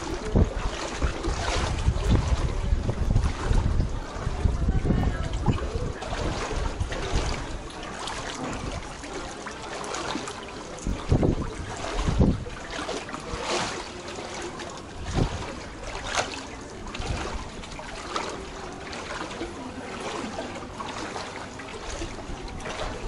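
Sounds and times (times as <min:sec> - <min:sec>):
wading through water splashing: 0:00.0 - 0:23.0.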